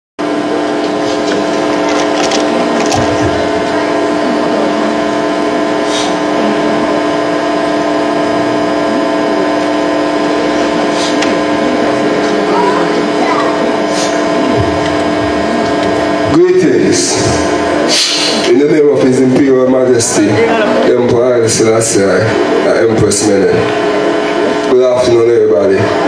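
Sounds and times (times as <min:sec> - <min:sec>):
drone of held tones: 0:00.2 - 0:26.0.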